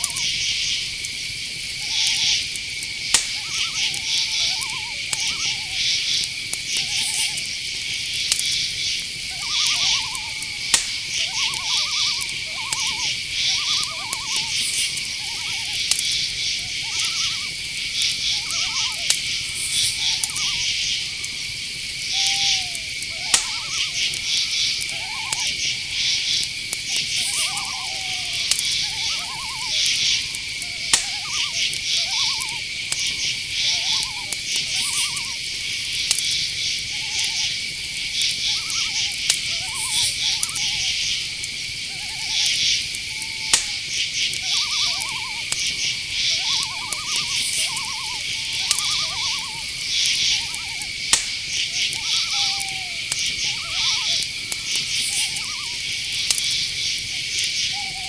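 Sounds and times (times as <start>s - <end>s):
crickets chirping: 0.0s - 58.0s
faint clicks: 0.0s - 58.0s
high-pitched insect drone: 0.0s - 58.0s
night animal calls: 0.0s - 58.0s.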